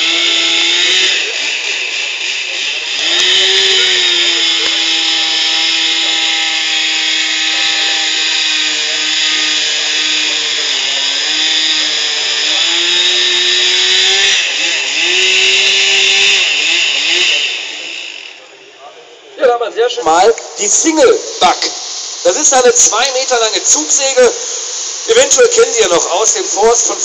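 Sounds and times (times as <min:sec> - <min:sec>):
chainsaw running at high revs: 0:00.0 - 0:18.8, 0:20.6 - 0:27.0.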